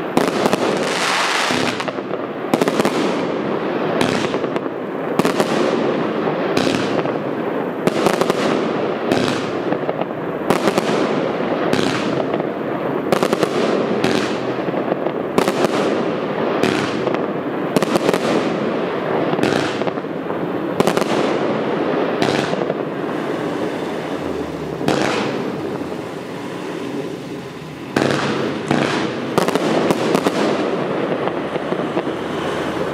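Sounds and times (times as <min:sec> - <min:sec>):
firework bangs: 0:00.0 - 0:32.9
firework hissing: 0:00.0 - 0:32.9.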